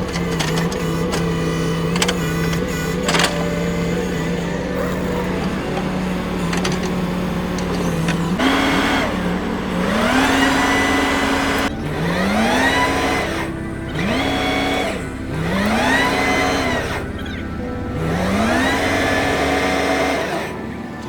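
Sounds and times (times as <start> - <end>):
excavator diesel engine revving: 0.0 - 21.0.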